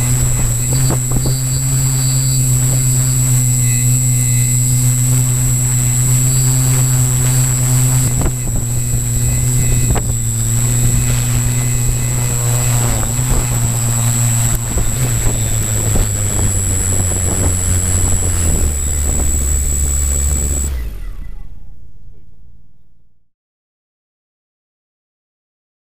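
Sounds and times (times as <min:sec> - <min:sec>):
drone motors humming: 0:00.0 - 0:22.3
thin high whine: 0:00.0 - 0:22.3.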